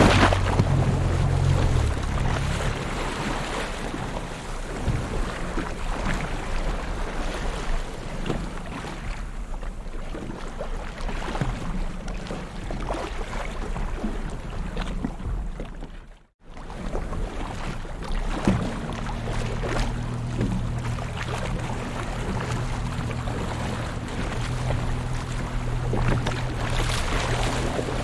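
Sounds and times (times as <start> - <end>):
wind rumble on microphone: 0.0 - 15.8, 16.6 - 28.0
sea waves washing and lapping: 0.0 - 28.0.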